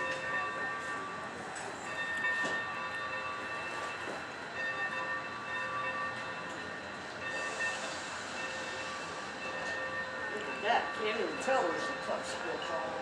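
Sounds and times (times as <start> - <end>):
train moving on rails: 0.0 - 13.0.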